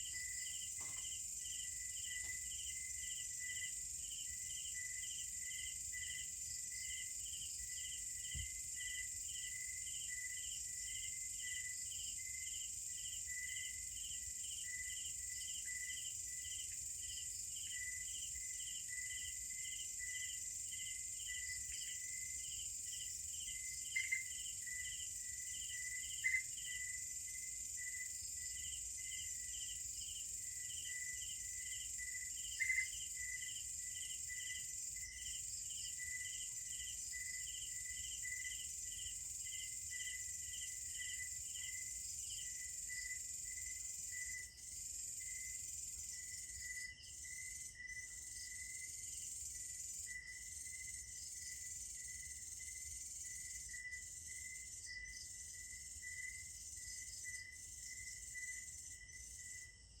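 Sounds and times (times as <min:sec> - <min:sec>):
crickets chirping in pulses: 0:00.0 - 1:00.0.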